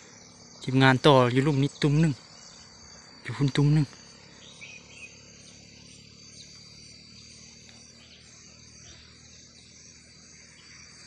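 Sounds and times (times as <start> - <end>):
faint bird chirps: 0.0 - 11.0
insects droning: 0.0 - 11.0
pulsing insect trill: 0.0 - 11.0.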